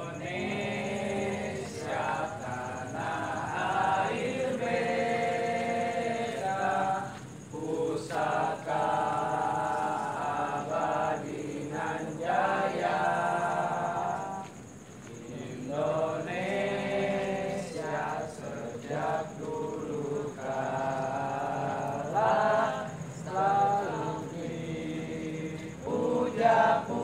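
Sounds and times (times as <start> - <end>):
children chanting in unison: 0.0 - 14.5, 15.1 - 27.0.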